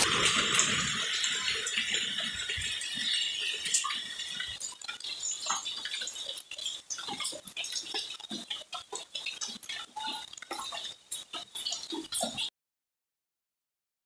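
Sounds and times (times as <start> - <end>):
rain hiss: 0.0 - 12.0
water dripping: 0.0 - 12.5.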